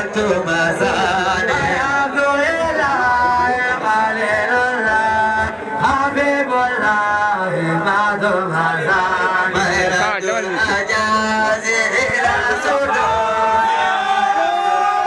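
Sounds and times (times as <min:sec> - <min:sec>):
man singing devotional chant: 0:00.0 - 0:13.9.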